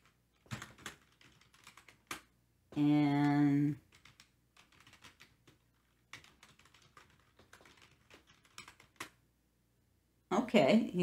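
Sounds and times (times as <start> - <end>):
keyboard typing: 0.0 - 9.2.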